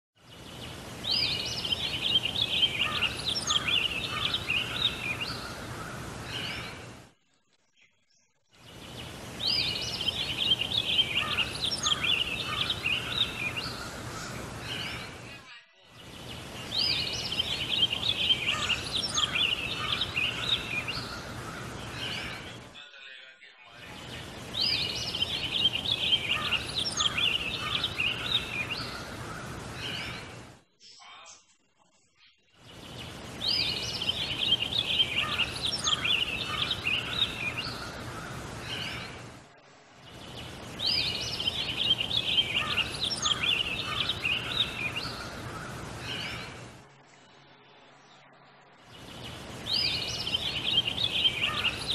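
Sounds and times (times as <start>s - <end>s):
bird chirping: 0.2s - 6.9s, 7.7s - 15.2s, 15.8s - 22.9s, 23.8s - 31.3s, 32.6s - 39.3s, 39.9s - 51.9s.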